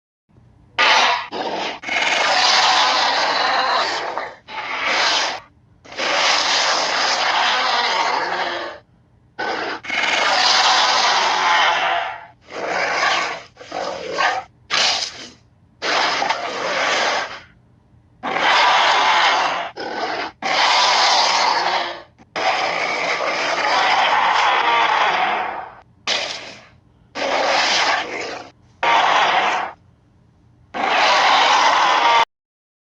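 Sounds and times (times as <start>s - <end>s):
creature roars and growls: 0.8s - 8.8s, 9.4s - 17.6s, 18.2s - 29.8s, 30.7s - 32.3s.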